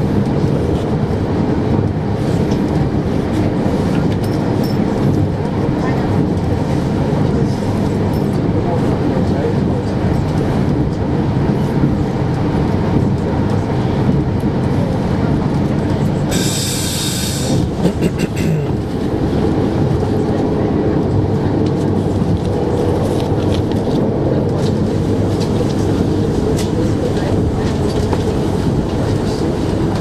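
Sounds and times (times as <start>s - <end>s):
train wheels rumbling on rails: 0.0s - 30.0s
rail clicks: 1.7s - 30.0s.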